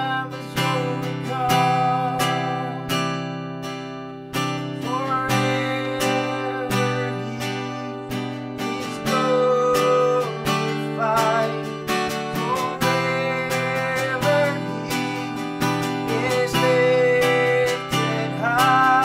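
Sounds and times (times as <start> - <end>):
man singing: 0.0 - 3.1, 4.5 - 19.0
strummed acoustic guitar: 0.0 - 19.0.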